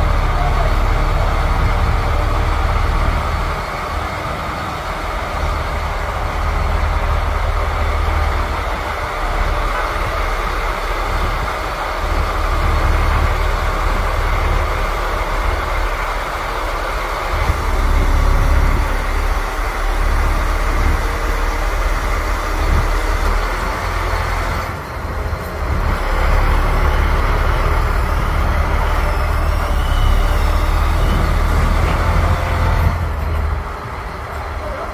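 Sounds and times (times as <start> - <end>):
truck engine rumbling: 0.0 - 34.9.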